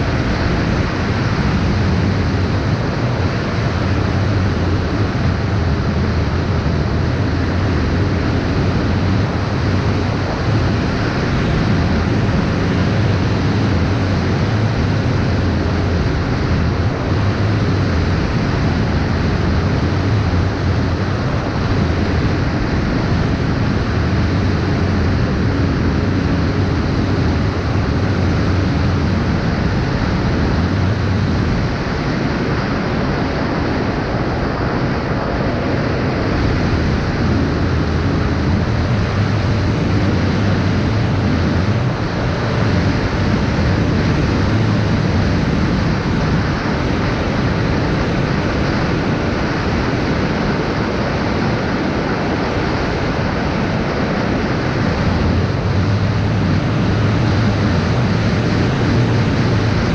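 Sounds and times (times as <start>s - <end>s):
low motor hum: 0.0s - 59.9s
wind noise rushing: 0.0s - 59.9s.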